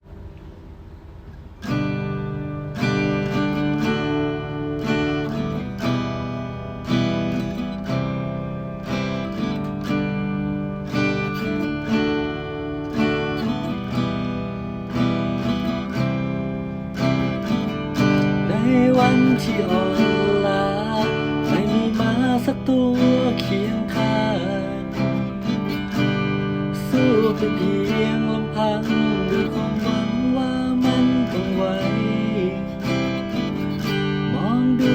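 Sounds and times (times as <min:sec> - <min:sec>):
acoustic guitar strumming chords: 0:00.0 - 0:34.9.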